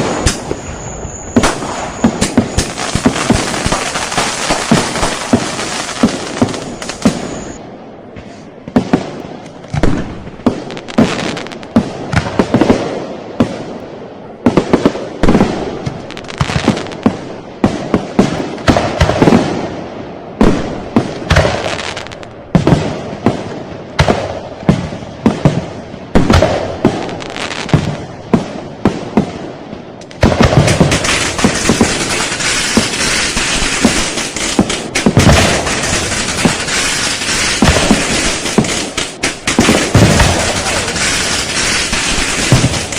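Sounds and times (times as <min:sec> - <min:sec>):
firecrackers crackling and banging: 0:00.0 - 0:19.8, 0:20.4 - 0:42.9.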